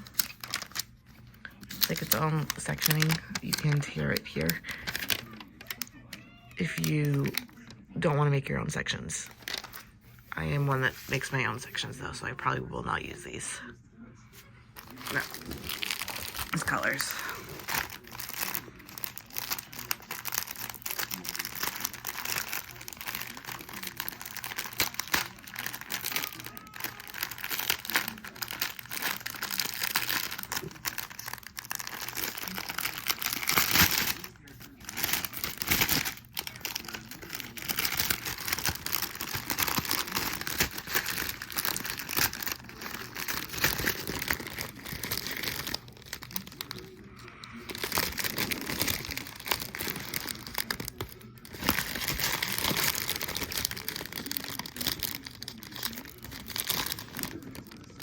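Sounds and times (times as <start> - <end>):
plastic packaging crinkling: 0.0 - 12.4, 14.8 - 58.0.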